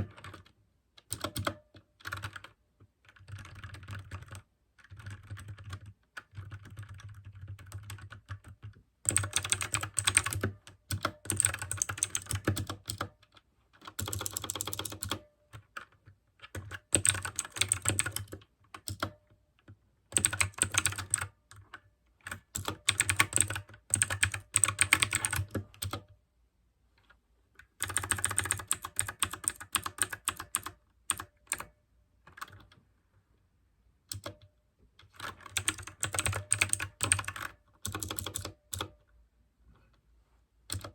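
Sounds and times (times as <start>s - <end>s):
fast typing on clicky keyboard: 0.0s - 19.2s, 20.1s - 26.1s, 27.7s - 31.7s, 32.3s - 32.8s, 34.1s - 34.4s, 35.0s - 39.0s.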